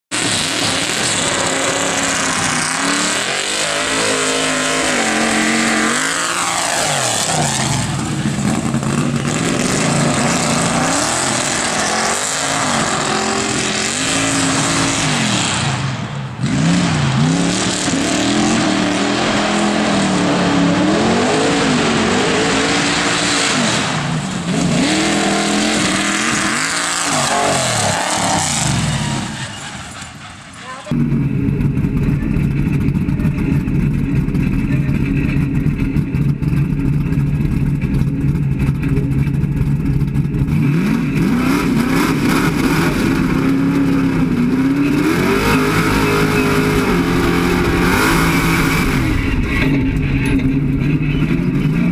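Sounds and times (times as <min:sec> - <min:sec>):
truck engine revving: 0:00.0 - 0:51.9.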